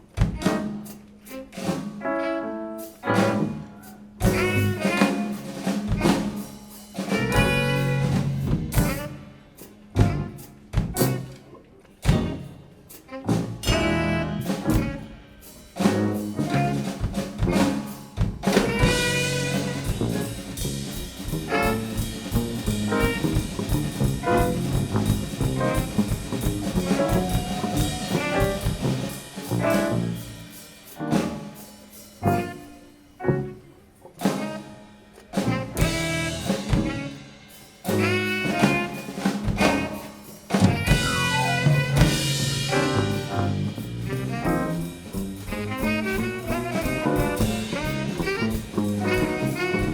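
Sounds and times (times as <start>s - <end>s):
jazz band with horns: 0.0s - 49.9s.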